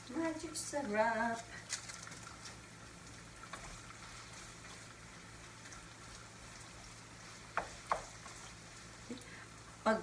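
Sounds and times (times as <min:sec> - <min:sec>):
food sizzling in a frying pan: 0:00.0 - 0:10.0
low steady hum: 0:00.0 - 0:10.0.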